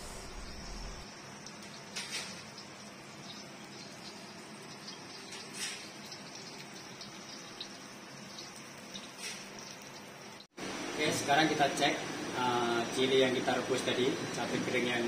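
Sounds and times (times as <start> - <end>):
water hissing in a wok: 0.0 - 14.9.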